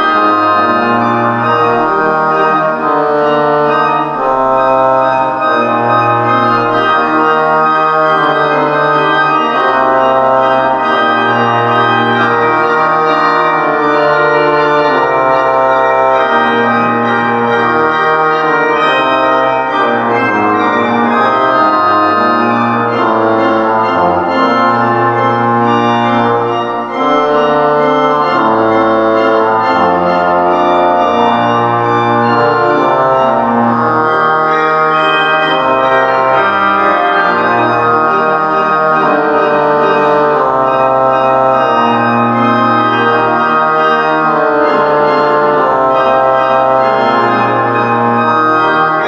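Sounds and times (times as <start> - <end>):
church organ chords: 0.0 - 49.0.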